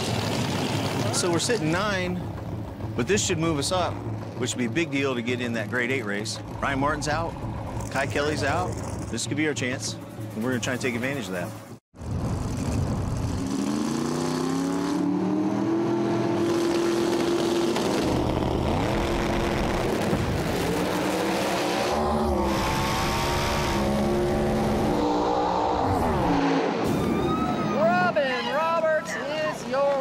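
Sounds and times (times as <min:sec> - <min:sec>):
drag race car engines at full throttle: 0:00.0 - 0:09.2, 0:12.0 - 0:26.9.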